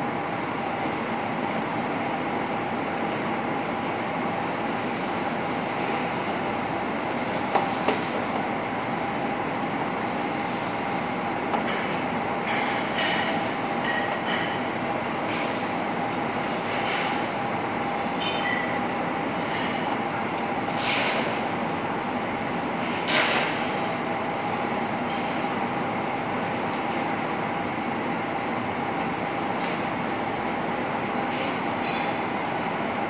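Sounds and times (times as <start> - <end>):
kitchen roar: 0.0 - 33.0.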